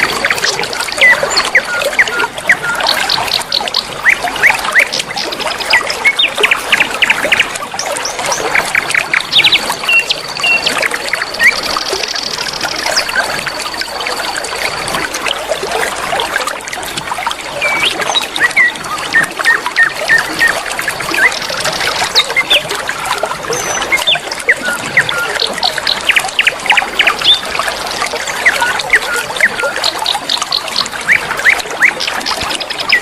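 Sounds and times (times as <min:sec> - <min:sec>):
flowing river water: 0:00.0 - 0:33.0
songbirds chirping and whistling: 0:00.2 - 0:14.0, 0:17.6 - 0:22.8, 0:23.5 - 0:33.0.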